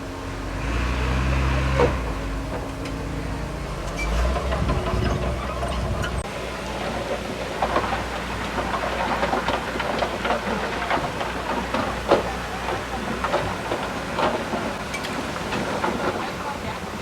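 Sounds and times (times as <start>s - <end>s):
bulldozer diesel engine: 0.0s - 17.0s
steel tracks clanking: 0.3s - 17.0s.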